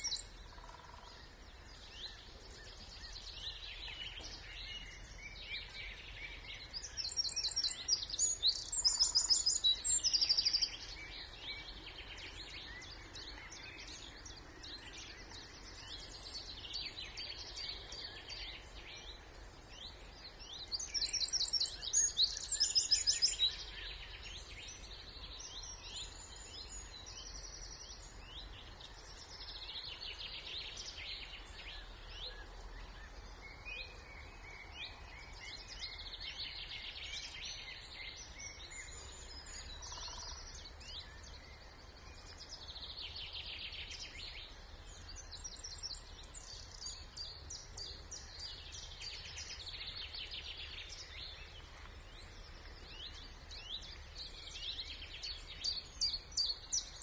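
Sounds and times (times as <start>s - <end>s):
nearby bird singing loudly: 0.0s - 57.0s
songbirds singing: 0.0s - 57.0s.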